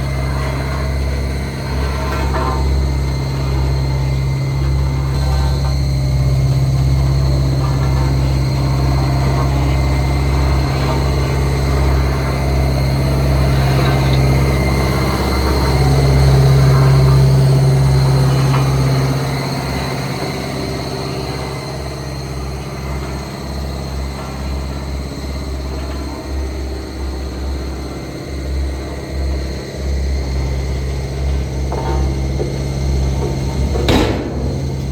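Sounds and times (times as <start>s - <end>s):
heavy machine diesel engine running: 0.0s - 34.9s.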